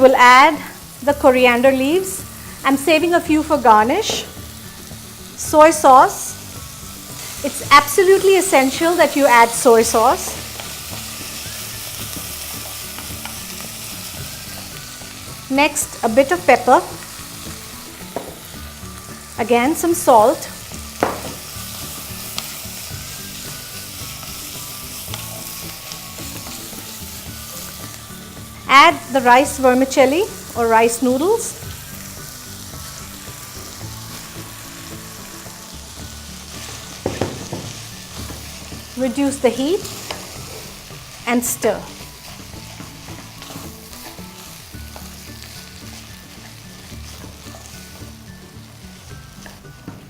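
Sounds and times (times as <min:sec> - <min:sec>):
background music: 0:00.0 - 0:50.0
food sizzling in a pan: 0:00.0 - 0:50.0.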